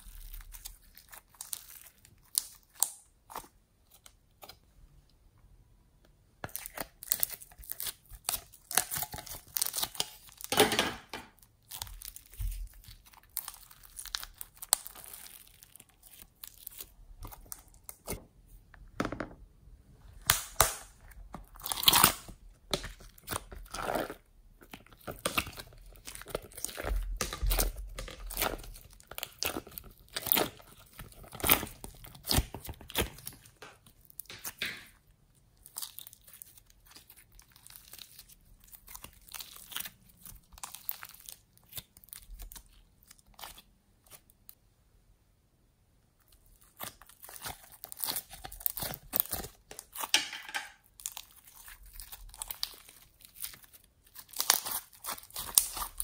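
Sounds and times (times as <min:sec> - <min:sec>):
slime crackling and popping: 0:00.0 - 0:04.5, 0:06.5 - 0:10.7, 0:11.3 - 0:18.2, 0:20.2 - 0:35.0, 0:35.6 - 0:44.6, 0:46.3 - 0:50.2, 0:50.8 - 0:56.0.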